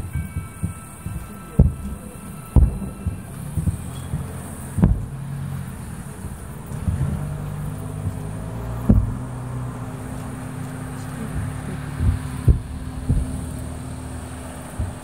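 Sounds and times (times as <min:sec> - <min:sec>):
fireworks booming: 0:00.0 - 0:15.0
steady low rumble: 0:00.0 - 0:15.0.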